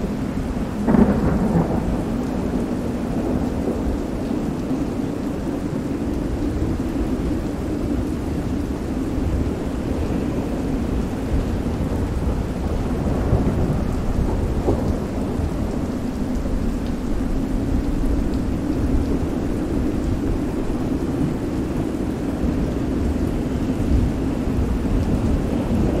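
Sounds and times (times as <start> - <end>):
deep rumble of thunder: 0.0 - 26.0
heavy rain: 0.0 - 26.0.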